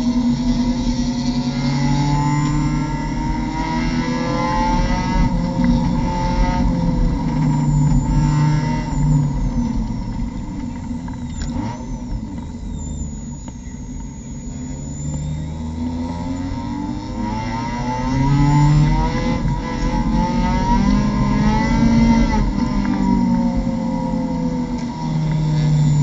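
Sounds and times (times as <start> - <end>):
race car engine: 0.0 - 26.0.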